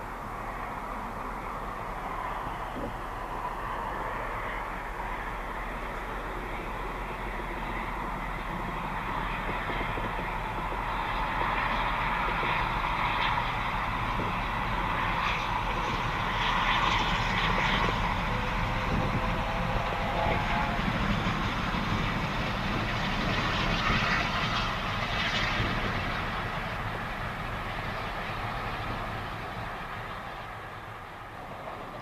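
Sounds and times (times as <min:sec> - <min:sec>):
steam locomotive passing at speed: 0:00.0 - 0:32.0.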